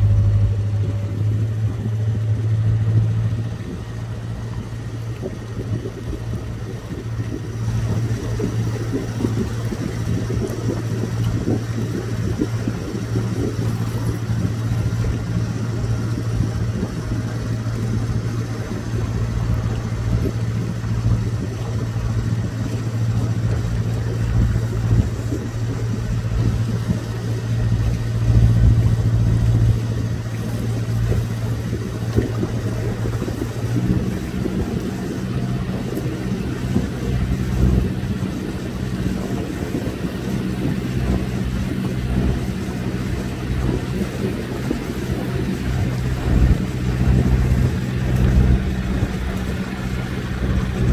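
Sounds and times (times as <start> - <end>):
motor boat engine droning: 0.0 - 50.9.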